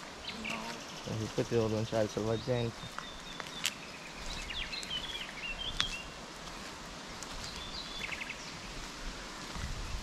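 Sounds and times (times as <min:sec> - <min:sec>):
small birds chirping: 0:00.0 - 0:10.0
steady outdoor hiss: 0:00.0 - 0:10.0.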